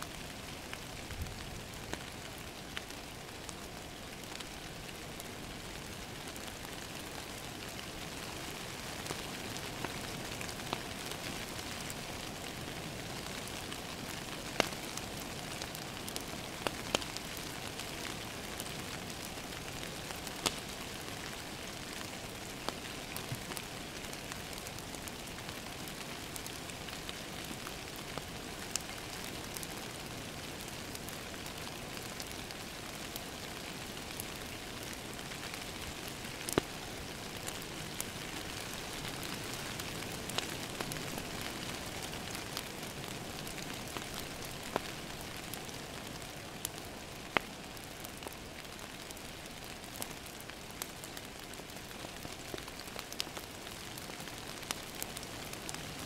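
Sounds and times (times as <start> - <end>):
rain on a window: 0.0 - 56.0
wood fire crackling and popping: 0.1 - 56.0.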